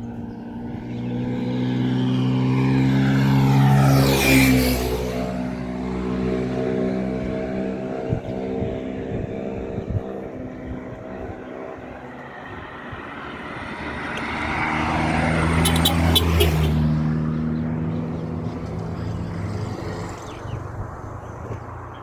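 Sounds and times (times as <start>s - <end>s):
vehicle approaching: 0.0s - 22.0s
vehicle engine humming: 0.0s - 22.0s.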